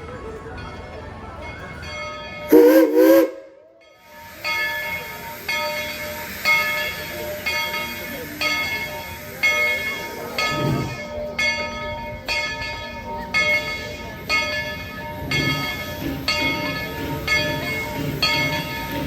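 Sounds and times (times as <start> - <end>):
steam locomotive bell ringing: 0.0 - 19.0.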